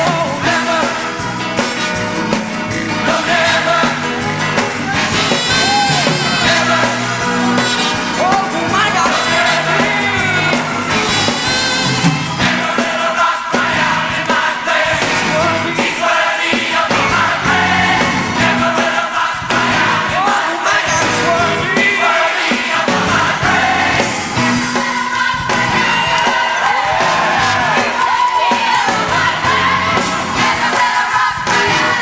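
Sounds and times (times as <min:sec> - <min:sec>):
bass line: 0:00.0 - 0:13.0, 0:14.9 - 0:15.8, 0:16.8 - 0:18.8, 0:19.4 - 0:20.3, 0:20.9 - 0:22.1, 0:22.7 - 0:32.0
band accompaniment: 0:00.0 - 0:32.0
choir singing gospel: 0:00.0 - 0:32.0.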